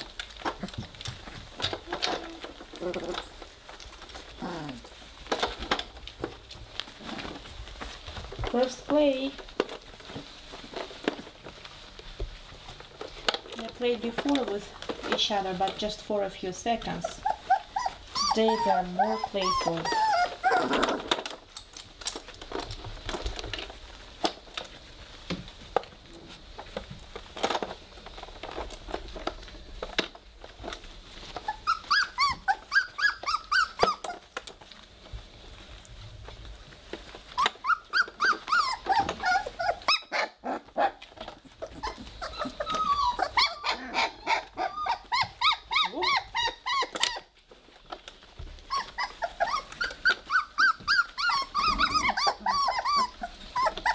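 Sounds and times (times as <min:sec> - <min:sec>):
puppies growling and whimpering: 0:00.0 - 0:25.0, 0:30.4 - 0:34.8, 0:35.5 - 0:53.9.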